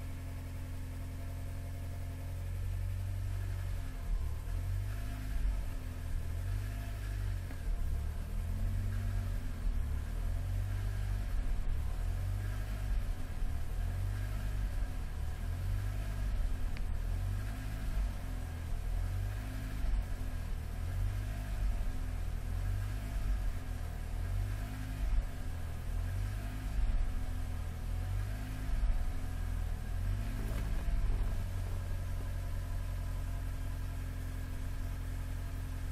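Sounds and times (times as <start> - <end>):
car engine: 0.0 - 35.9
road rumble: 0.0 - 35.9.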